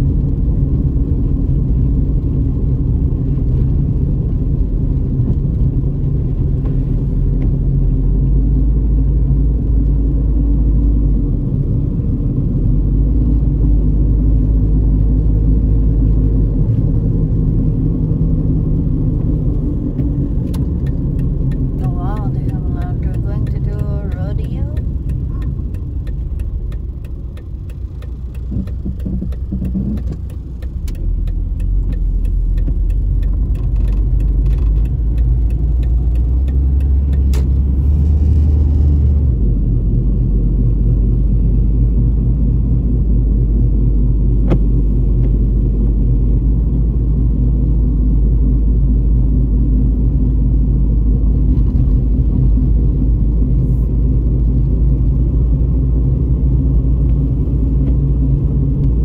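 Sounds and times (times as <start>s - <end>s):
car engine: 0.0s - 59.0s
road rumble inside car: 0.0s - 59.0s.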